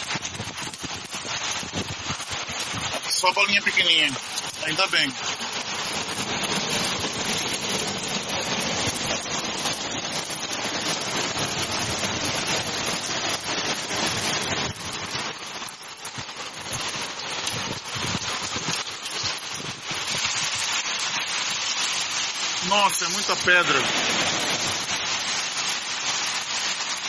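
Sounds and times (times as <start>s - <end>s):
hail and heavy rain: 0.0s - 27.0s.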